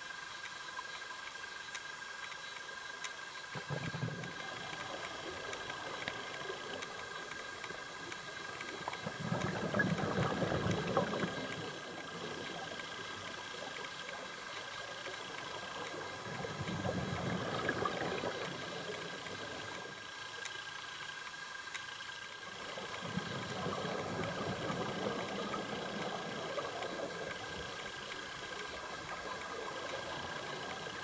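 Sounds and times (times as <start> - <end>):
faint high whine: 0.0 - 31.0
regulator bubbles underwater: 0.0 - 31.0.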